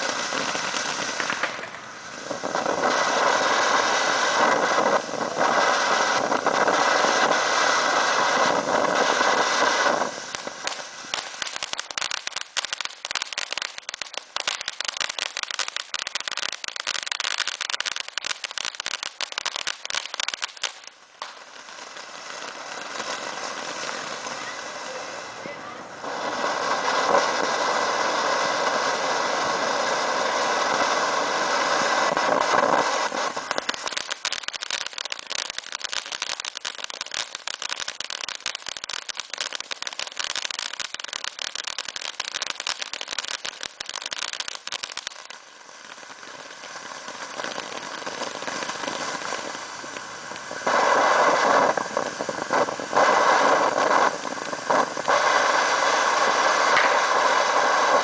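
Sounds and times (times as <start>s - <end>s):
firework crackling: 0.0s - 58.0s
firework hissing: 0.0s - 58.0s.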